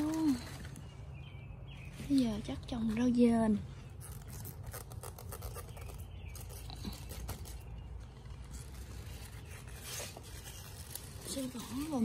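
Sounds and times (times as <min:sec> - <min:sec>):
leaves rustling and crackling: 0:00.0 - 0:12.0.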